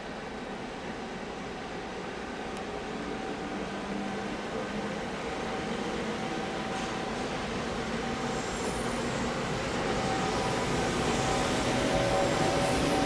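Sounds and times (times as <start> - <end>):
freight train running: 0.0 - 13.0.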